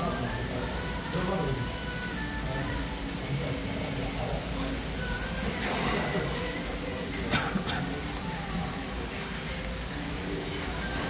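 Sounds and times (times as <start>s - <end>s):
food sizzling on a griddle pan: 0.0s - 11.0s.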